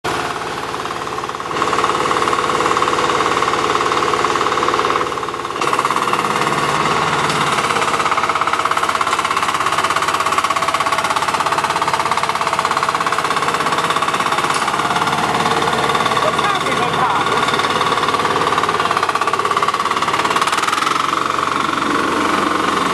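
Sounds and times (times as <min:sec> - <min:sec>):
diesel engine knocking: 0:00.1 - 0:22.9.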